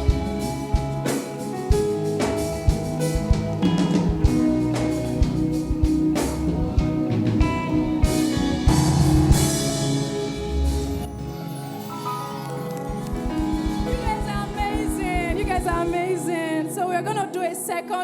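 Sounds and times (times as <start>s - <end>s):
bass guitar: 0.0s - 11.4s, 12.5s - 16.2s
drum kit: 0.0s - 16.4s
electric guitar: 0.0s - 18.0s.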